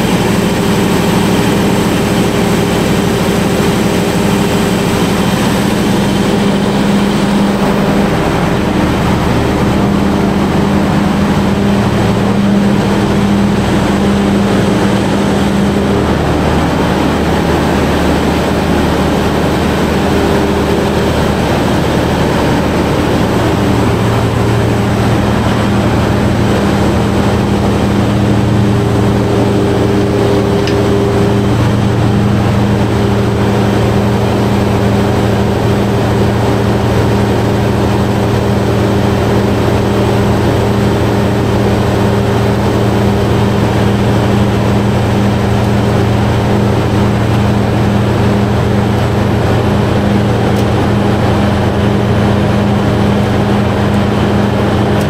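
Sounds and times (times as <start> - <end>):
diesel generator drone: 0.0 - 55.0.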